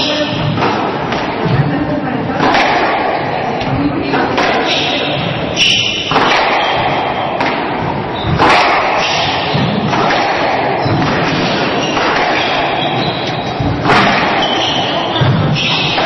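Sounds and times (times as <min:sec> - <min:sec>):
rackets striking squash ball: 0:00.0 - 0:16.0.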